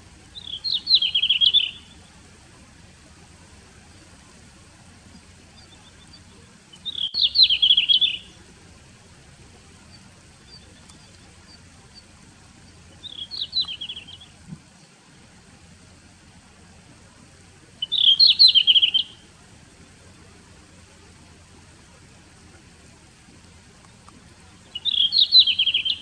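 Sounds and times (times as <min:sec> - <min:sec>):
faint high ticking notes: 0:00.0 - 0:26.0
bird singing warbling phrases: 0:00.1 - 0:02.4, 0:03.0 - 0:14.9, 0:17.6 - 0:22.9, 0:23.8 - 0:26.0.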